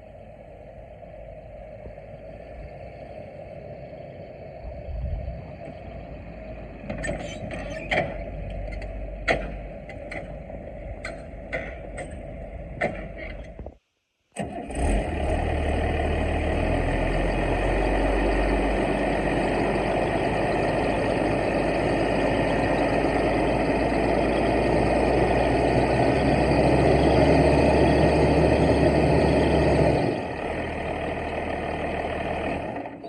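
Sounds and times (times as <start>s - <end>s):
excavator diesel engine running: 0.0s - 13.7s, 14.4s - 33.0s.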